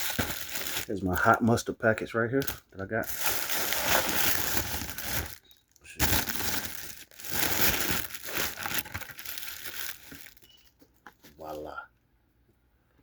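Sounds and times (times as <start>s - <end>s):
packaging crinkling and rustling: 0.0s - 1.6s, 2.4s - 11.4s.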